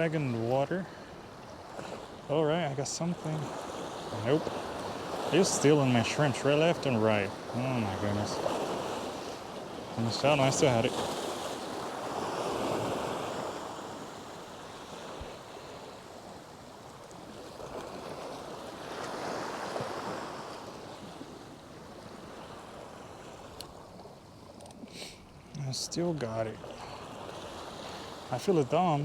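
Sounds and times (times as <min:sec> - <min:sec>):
waves washing in: 0:00.0 - 0:29.0.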